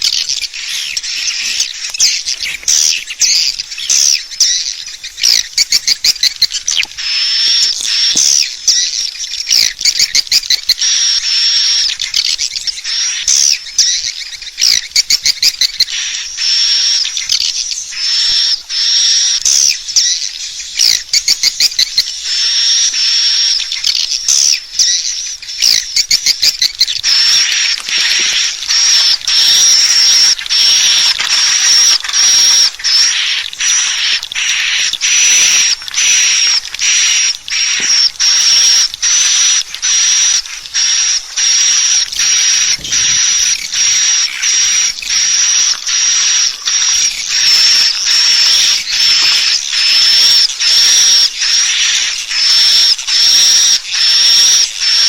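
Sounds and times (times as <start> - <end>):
high-pitched bird twittering: 0.0 - 55.0.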